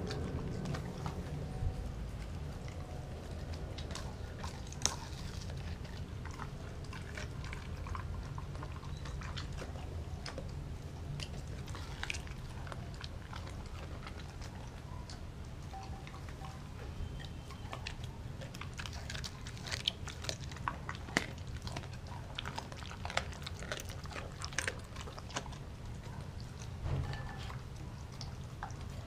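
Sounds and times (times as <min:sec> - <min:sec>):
dog chewing and crunching food: 0:00.0 - 0:29.0.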